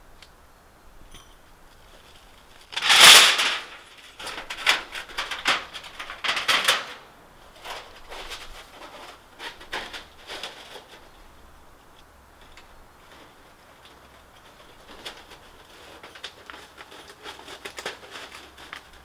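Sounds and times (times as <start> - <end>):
camping gear rustling: 1.1 - 19.0.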